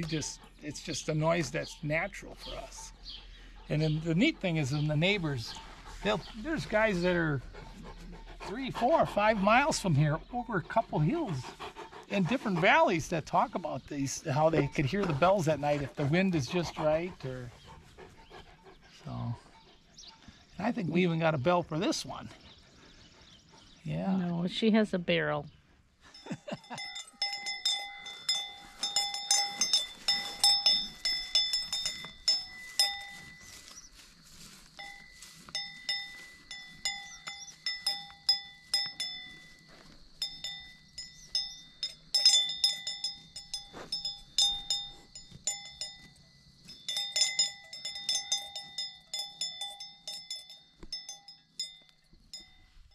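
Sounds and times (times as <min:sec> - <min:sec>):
cow bell clanking: 0:00.0 - 0:07.5, 0:08.5 - 0:11.6, 0:12.2 - 0:17.3, 0:26.1 - 0:52.9.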